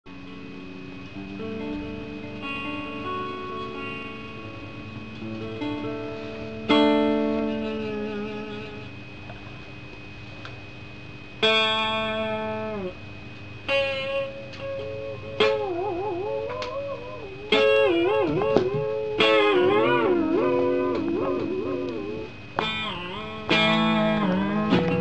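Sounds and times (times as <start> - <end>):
guitar notes bending: 0.2 - 9.8, 11.0 - 25.0.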